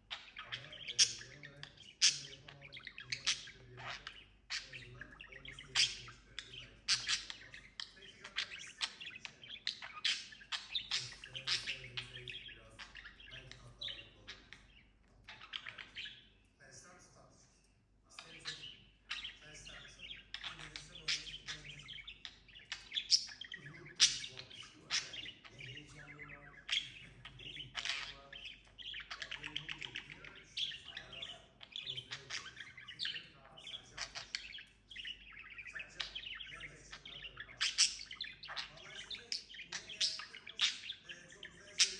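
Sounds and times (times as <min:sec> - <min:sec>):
budgerigar chattering and warbling: 0:00.0 - 0:16.3, 0:18.2 - 0:41.9.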